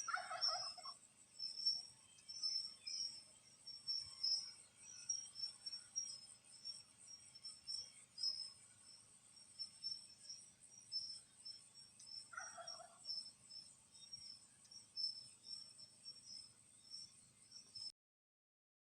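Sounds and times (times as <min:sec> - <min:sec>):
insect drone: 0:00.0 - 0:17.9
insect pulsing chirps: 0:00.0 - 0:17.9.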